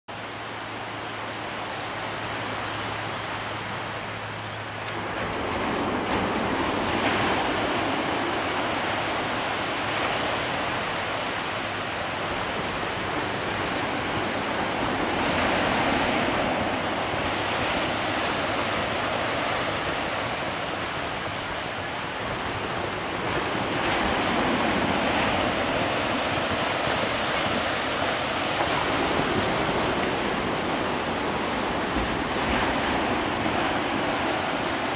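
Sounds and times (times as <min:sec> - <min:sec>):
ocean surf on beach: 0:00.1 - 0:34.9.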